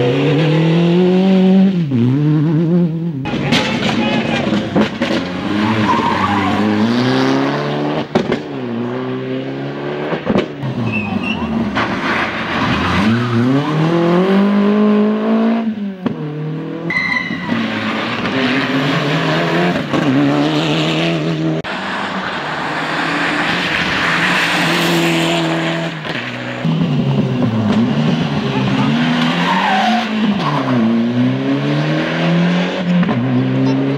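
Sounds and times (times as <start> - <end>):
rally car engines revving: 0.0 - 33.9.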